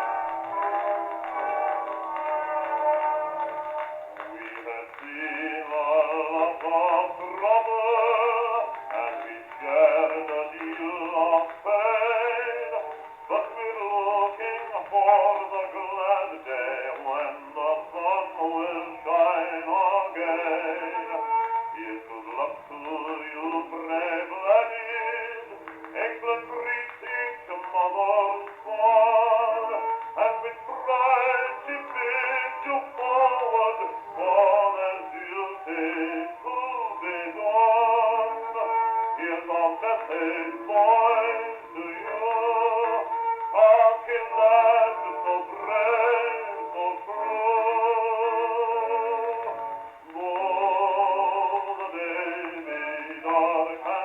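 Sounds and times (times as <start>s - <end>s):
man singing with vibrato: 0.0s - 54.0s
musical accompaniment: 0.0s - 54.0s.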